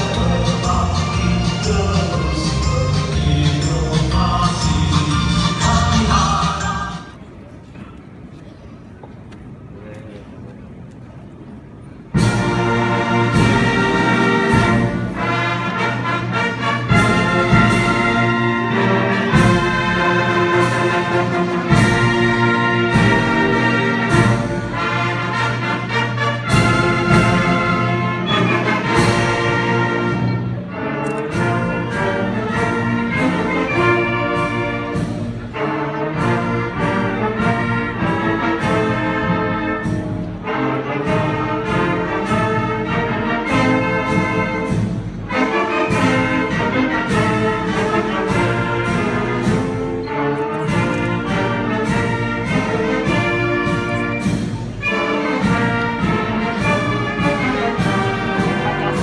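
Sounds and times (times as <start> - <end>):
brass-led orchestral music: 0.0 - 7.2, 12.1 - 59.0.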